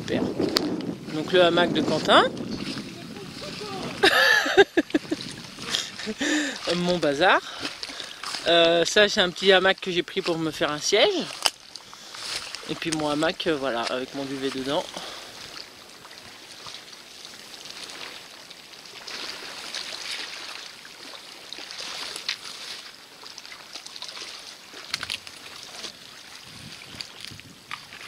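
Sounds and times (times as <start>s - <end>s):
lake water lapping at shore: 0.0s - 28.0s.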